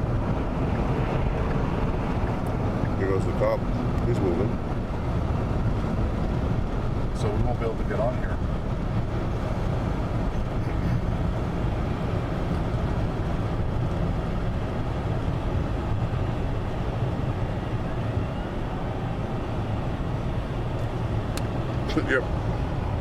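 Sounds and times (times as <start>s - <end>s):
pickup engine rumble from inside: 0.0s - 23.0s.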